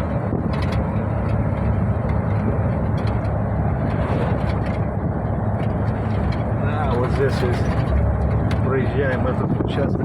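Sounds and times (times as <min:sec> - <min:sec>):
road noise: 0:00.0 - 0:10.0
truck engine drone: 0:00.0 - 0:10.0.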